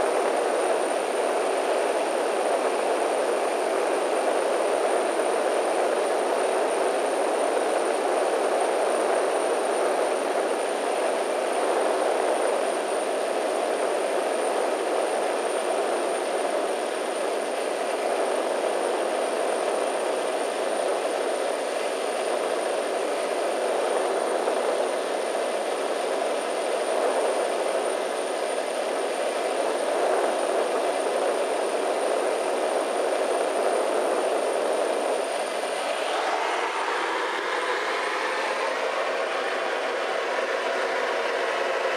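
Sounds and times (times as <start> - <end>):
thin high whine: 0.0 - 41.9
turboprop engine drone: 0.0 - 41.9.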